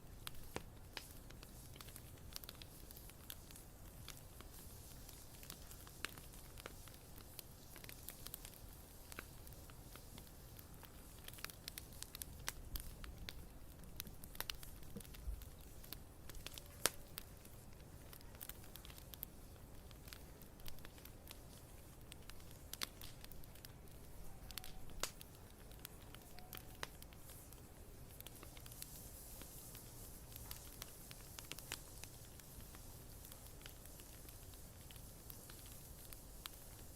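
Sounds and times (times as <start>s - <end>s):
bonfire crackling: 0.0s - 36.9s
faint steady hiss: 0.0s - 36.9s.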